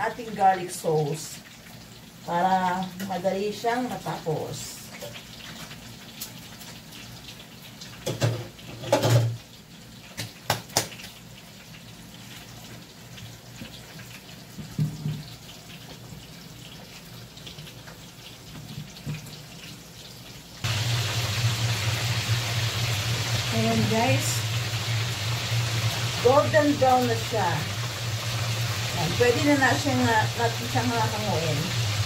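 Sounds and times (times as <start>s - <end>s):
food deep-frying in hot oil: 0.0s - 32.0s.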